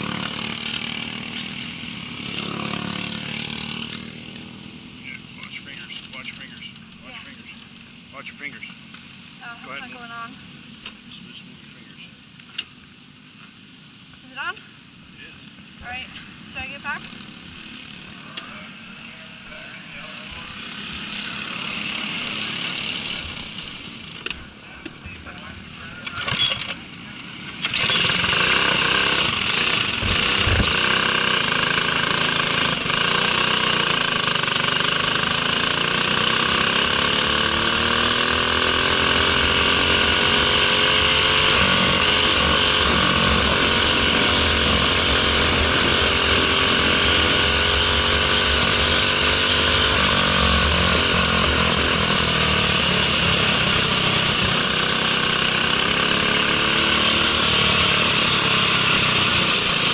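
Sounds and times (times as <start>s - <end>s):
kart engine revving: 0.0s - 10.6s, 15.2s - 24.8s, 25.4s - 59.9s.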